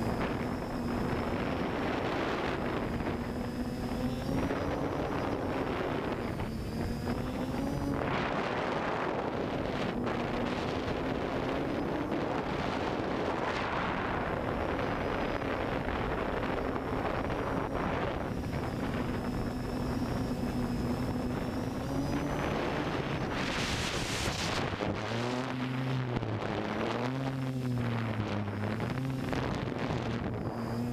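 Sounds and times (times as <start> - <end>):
drone motors humming: 0.0 - 30.9
wind rushing over microphone: 0.0 - 30.9.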